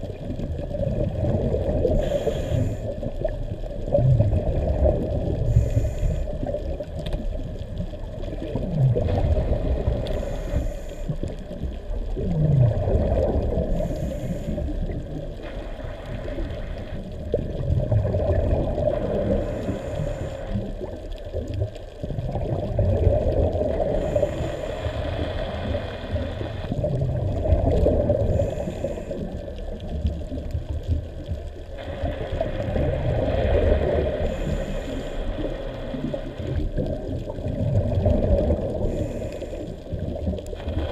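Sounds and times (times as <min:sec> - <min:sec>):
muffled underwater rumble: 0:00.0 - 0:40.9
regulator bubbles gurgling: 0:00.0 - 0:40.9.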